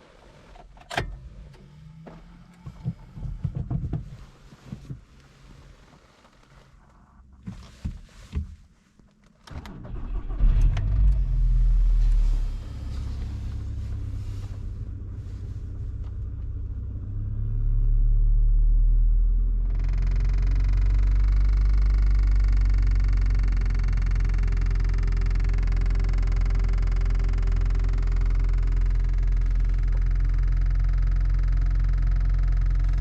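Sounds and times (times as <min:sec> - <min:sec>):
car engine running: 0:00.6 - 0:05.9, 0:09.8 - 0:33.0.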